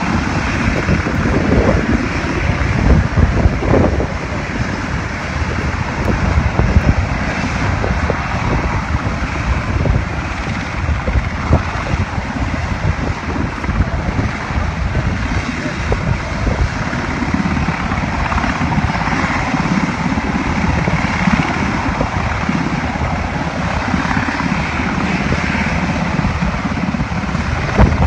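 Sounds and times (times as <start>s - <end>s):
helicopter turbine and rotor noise: 0.0s - 28.0s.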